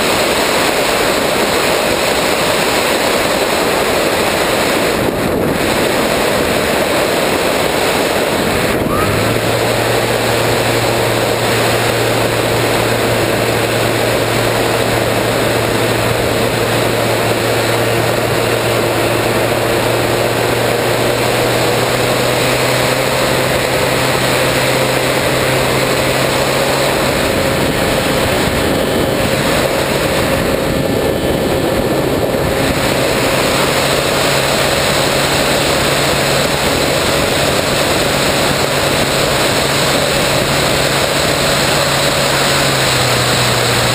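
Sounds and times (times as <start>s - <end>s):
electric motor and propeller hum: 0.0s - 43.9s
rush of wind noise: 0.0s - 43.9s.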